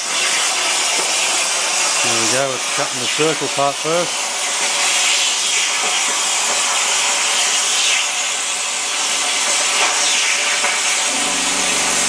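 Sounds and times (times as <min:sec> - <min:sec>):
plasma cutter hissing: 0:00.0 - 0:12.0.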